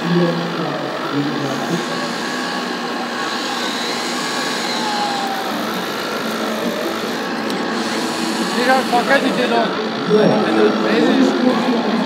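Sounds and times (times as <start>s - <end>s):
electric motors whining: 0.0s - 12.0s
exhibition hall noise: 0.0s - 12.0s.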